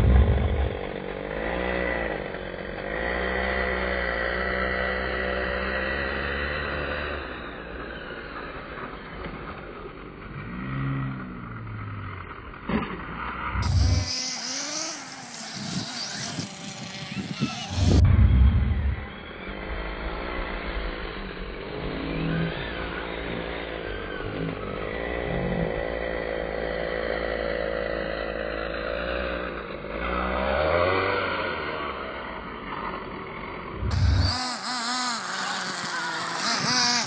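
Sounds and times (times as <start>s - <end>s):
electric rc truck motors whining: 0.0s - 37.0s.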